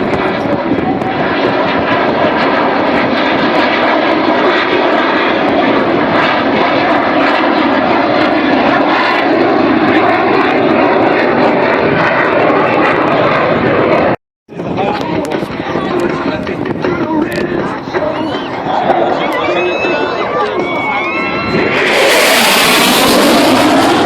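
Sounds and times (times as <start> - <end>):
airplane engine in flight: 0.0 - 24.0.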